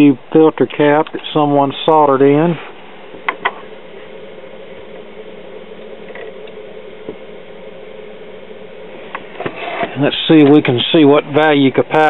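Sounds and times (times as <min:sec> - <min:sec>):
workshop room hum and hiss: 0:00.0 - 0:12.0.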